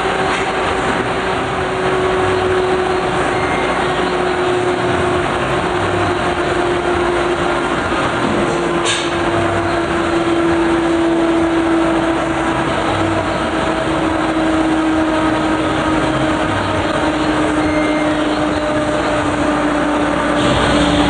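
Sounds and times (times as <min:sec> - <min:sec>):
mechanical noise: 0:00.0 - 0:21.0.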